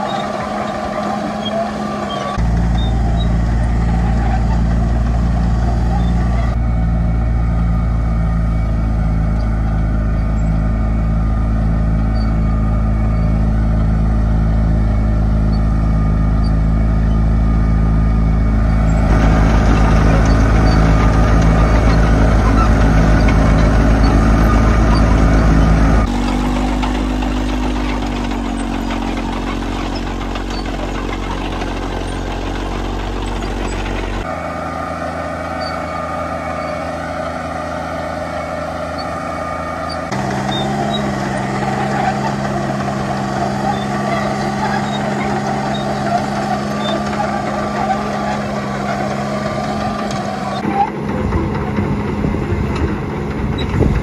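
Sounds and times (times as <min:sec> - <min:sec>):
diesel tractor engines under load: 0:00.0 - 0:54.0.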